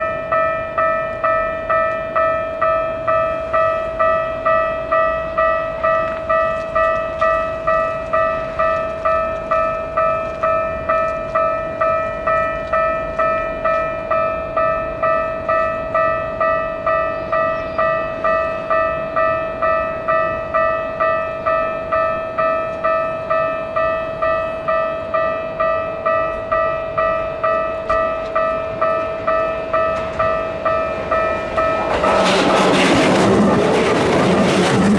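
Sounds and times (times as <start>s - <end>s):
approaching train: 0.0s - 34.9s
level-crossing warning bell: 0.0s - 34.9s.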